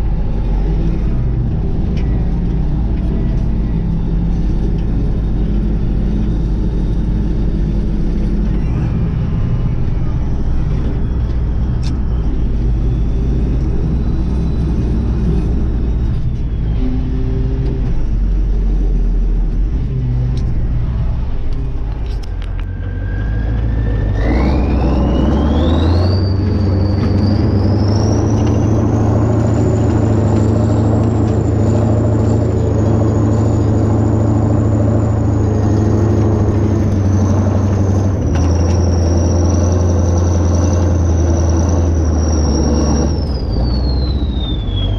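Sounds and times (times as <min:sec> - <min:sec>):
rising engine whine: 0:00.0 - 0:44.9
tractor diesel engine running: 0:00.0 - 0:44.9.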